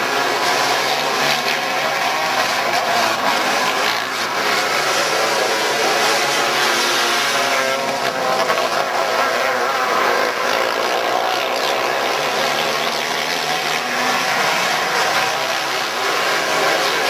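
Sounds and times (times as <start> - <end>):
kart engines racing: 0.0 - 17.0.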